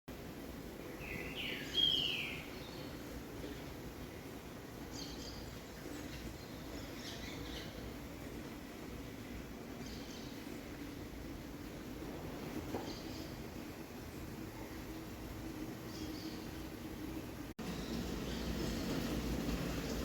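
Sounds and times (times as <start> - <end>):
steady background noise: 0.1 - 20.0.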